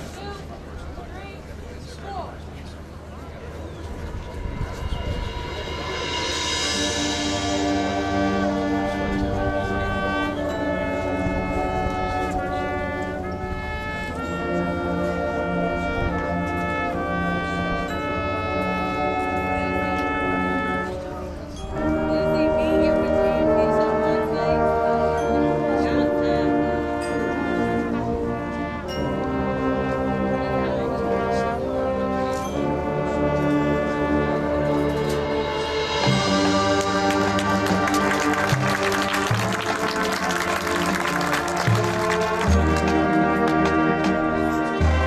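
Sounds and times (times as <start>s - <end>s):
marching band brass chords: 2.4s - 45.0s.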